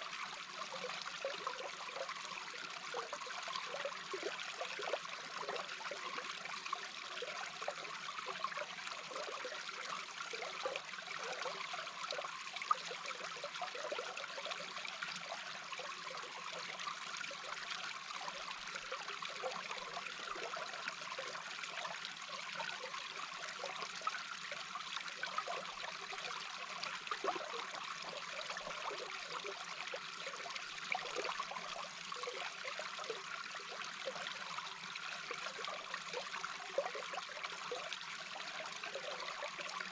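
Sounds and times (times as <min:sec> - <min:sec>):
brook water heard underwater: 0:00.0 - 0:39.9.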